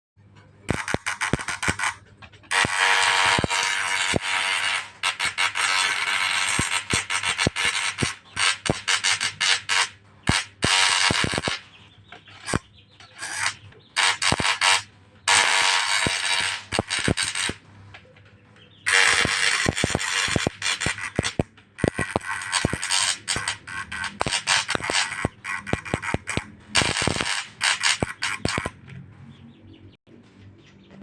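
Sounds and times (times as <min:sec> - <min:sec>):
sharp clicks: 0:00.4 - 0:29.0
small machine harsh scraping: 0:00.6 - 0:17.7, 0:18.7 - 0:29.4.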